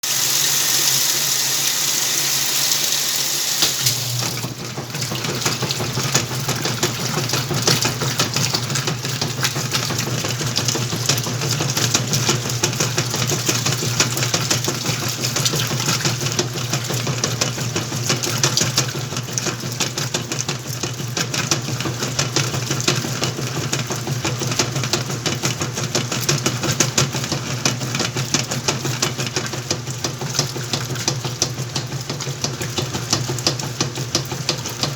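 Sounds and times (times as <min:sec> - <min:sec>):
washing machine motor humming: 0:00.0 - 0:34.9
water rushing into washing machine: 0:00.0 - 0:34.9.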